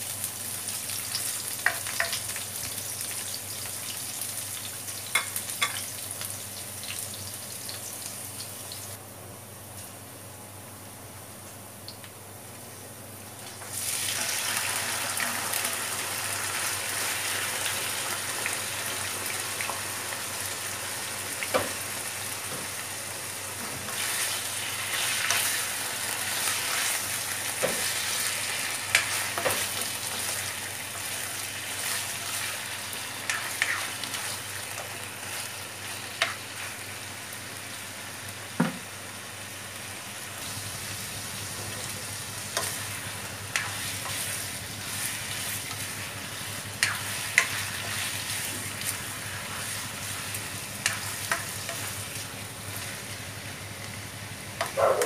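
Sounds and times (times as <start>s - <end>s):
meat sizzling in a wok: 0.0s - 9.0s, 13.4s - 55.0s.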